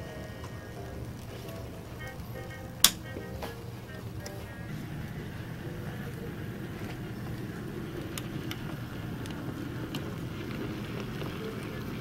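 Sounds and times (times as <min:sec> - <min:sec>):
model train mechanical hum: 0:00.0 - 0:12.0.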